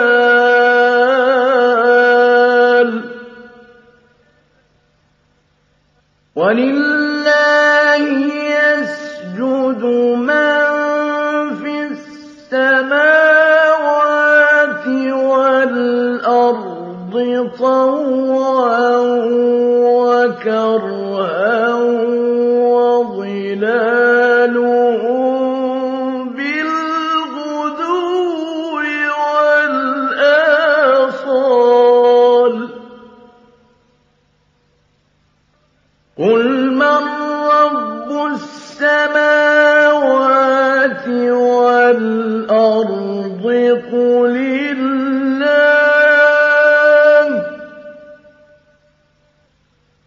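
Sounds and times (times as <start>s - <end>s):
man reciting melodically: 0.0s - 4.0s, 6.4s - 33.5s, 36.2s - 48.3s.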